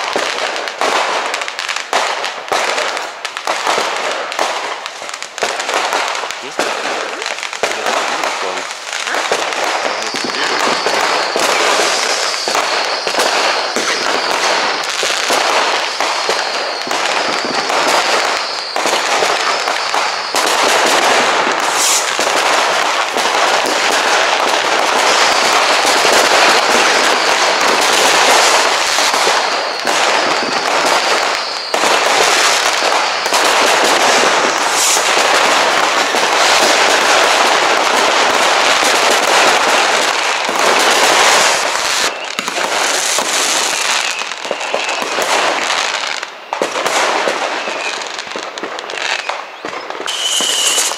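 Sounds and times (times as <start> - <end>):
firecrackers crackling and banging: 0.0 - 50.9
high firework whistle: 0.0 - 50.9.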